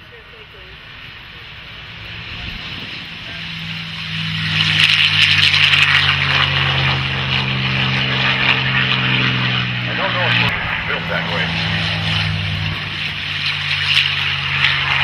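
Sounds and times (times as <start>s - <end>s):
propeller plane engine drone: 0.0s - 15.0s
rasping propeller and exhaust: 0.0s - 15.0s.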